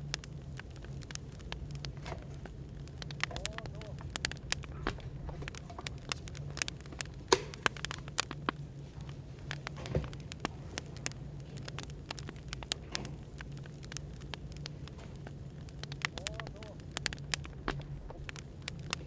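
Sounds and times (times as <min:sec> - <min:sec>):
fire pops and snaps: 0:00.0 - 0:19.0
low background hum: 0:00.0 - 0:19.0
wood fire crackling: 0:00.0 - 0:19.0.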